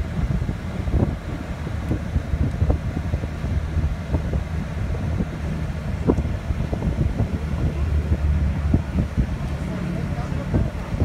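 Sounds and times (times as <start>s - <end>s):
car engine rumble: 0.0s - 11.0s
wind gusting across microphone: 0.0s - 11.0s.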